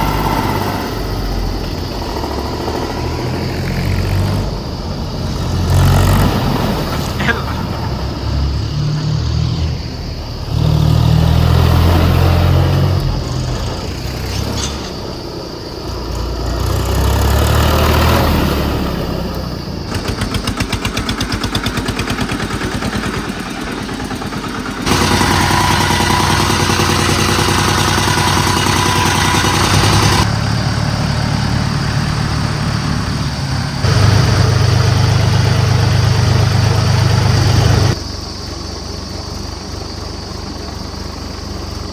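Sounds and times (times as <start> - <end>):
rapid even engine clatter: 0.0 - 41.9
tractor engines labouring: 0.0 - 41.9.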